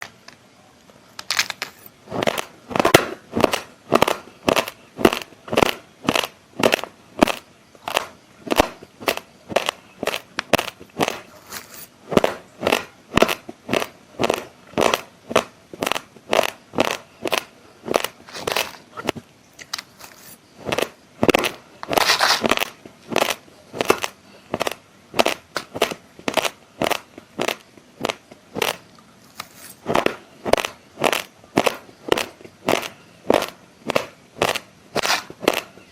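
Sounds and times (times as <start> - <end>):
raw rice grains being chewed: 1.2 - 35.9.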